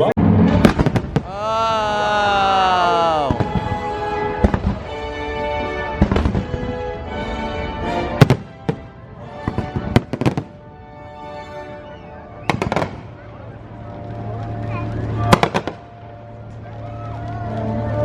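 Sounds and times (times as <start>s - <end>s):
music soundtrack: 0.0s - 18.0s
fireworks bangs: 0.2s - 7.2s, 8.0s - 10.8s, 11.7s - 18.0s.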